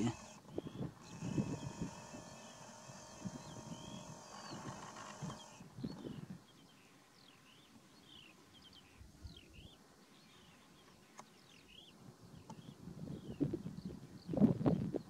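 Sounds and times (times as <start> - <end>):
songbird chirping: 0.0 - 14.4.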